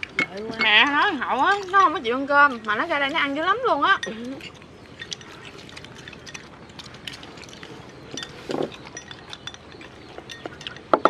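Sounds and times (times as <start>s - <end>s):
chopsticks clinking on porcelain bowls: 0.0s - 3.2s, 3.9s - 11.0s.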